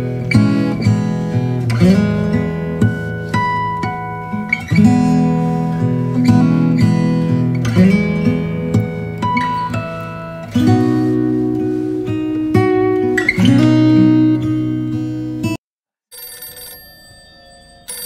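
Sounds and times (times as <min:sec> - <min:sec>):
strummed acoustic guitar: 0:00.0 - 0:15.6.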